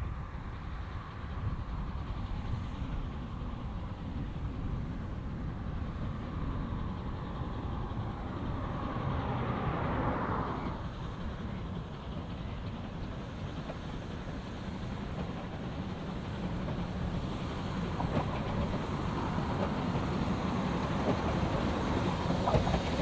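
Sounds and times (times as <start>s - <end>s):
steam locomotive approaching: 0.0s - 23.0s.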